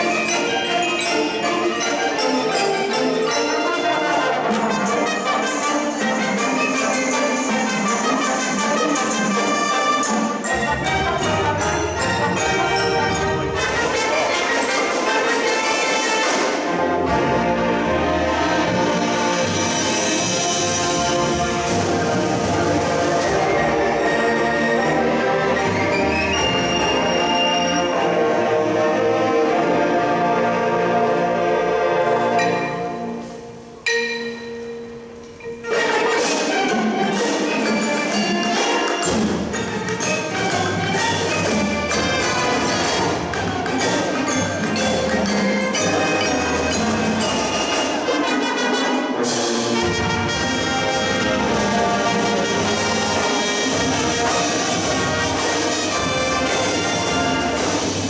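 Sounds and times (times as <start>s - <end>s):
mallet percussion tones: 0.0s - 28.1s, 32.0s - 58.0s
marching band playing: 0.0s - 58.0s
drums: 4.4s - 27.8s, 34.6s - 58.0s.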